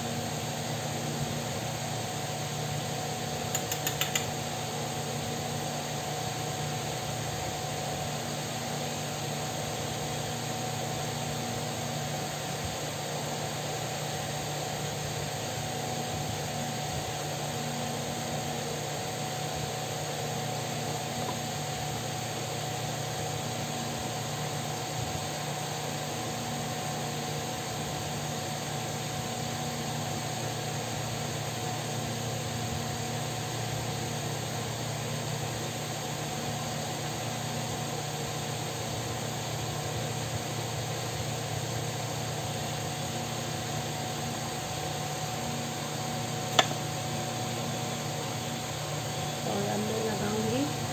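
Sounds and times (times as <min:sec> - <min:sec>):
electric fan whirring: 0:00.0 - 0:50.9.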